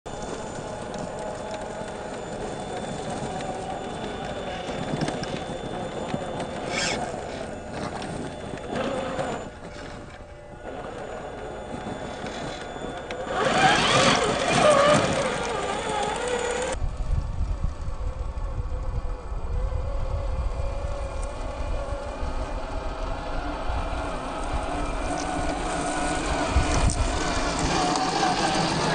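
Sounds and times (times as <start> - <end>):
electric motor and gearbox whining: 0.1 - 28.9.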